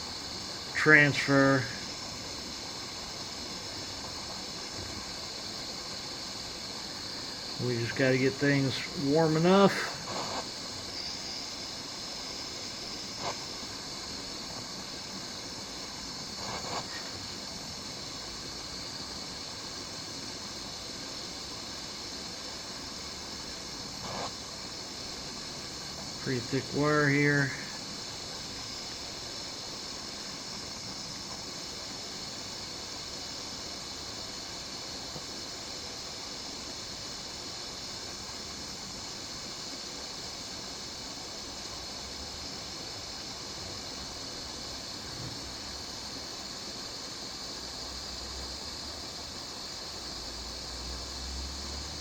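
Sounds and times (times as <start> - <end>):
gas torch flame hissing: 0.0 - 52.0.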